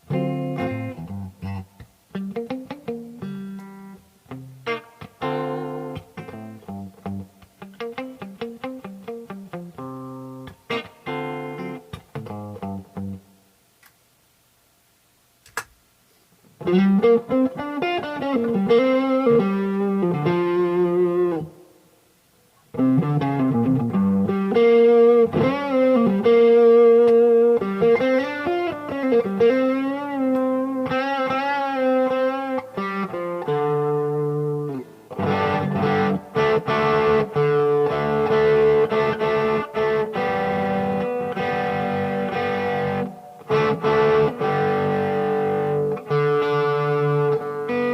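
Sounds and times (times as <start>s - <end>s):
strummed guitar chords: 0.0s - 13.2s, 16.6s - 21.6s, 22.7s - 47.9s
electric guitar melody with bends: 0.0s - 13.4s, 16.5s - 21.8s, 22.6s - 47.9s.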